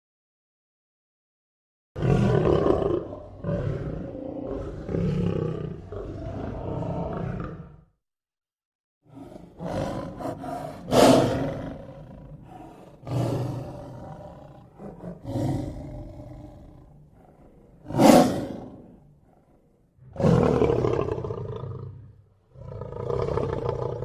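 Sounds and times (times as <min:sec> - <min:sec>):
lion roaring: 0:02.0 - 0:07.9, 0:09.1 - 0:24.0.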